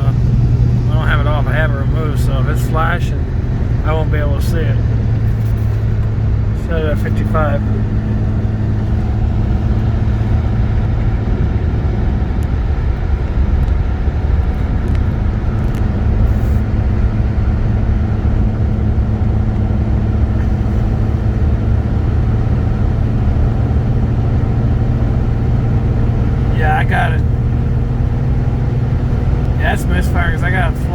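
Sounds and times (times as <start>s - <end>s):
road noise: 0.0s - 30.9s
vehicle engine drone: 0.0s - 30.9s.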